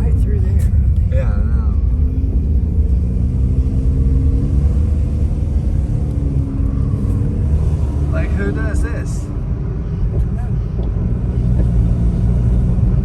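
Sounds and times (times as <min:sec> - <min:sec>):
car cabin engine and road rumble: 0:00.0 - 0:13.0.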